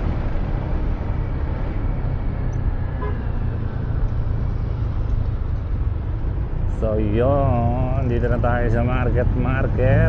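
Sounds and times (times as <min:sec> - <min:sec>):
road rumble: 0:00.0 - 0:10.0.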